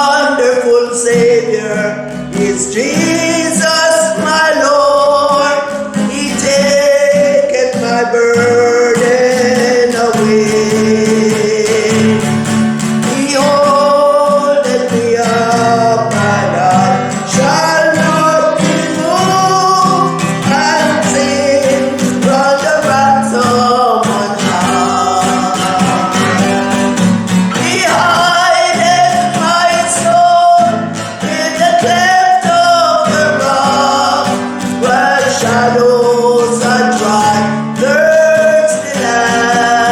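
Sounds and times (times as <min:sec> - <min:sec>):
guitar accompaniment: 0:00.0 - 0:39.9
person singing: 0:00.0 - 0:39.9.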